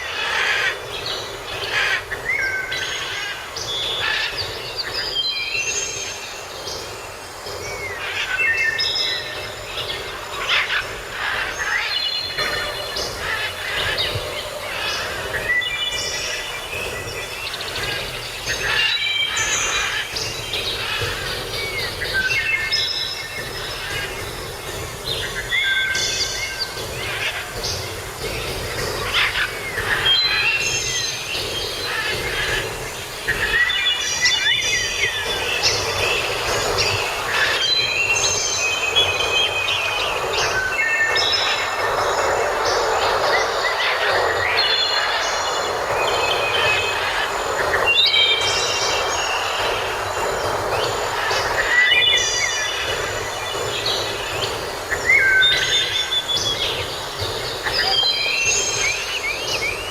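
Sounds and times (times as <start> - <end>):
birds calling and singing: 0.0 - 59.9
steady background hiss: 0.0 - 59.9.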